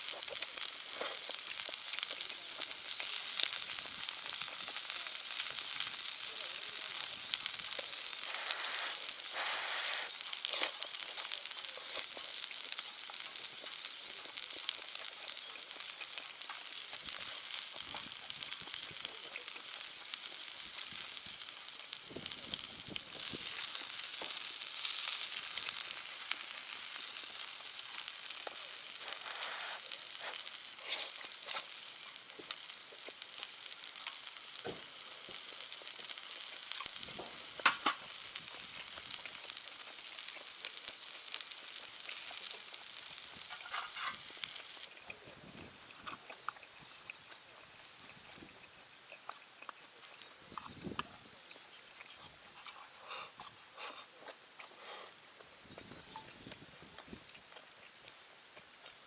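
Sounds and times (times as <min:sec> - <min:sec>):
meat sizzling on grill pan: 0:00.0 - 0:48.8, 0:53.6 - 0:59.0
small pops and crackles: 0:00.0 - 0:59.0.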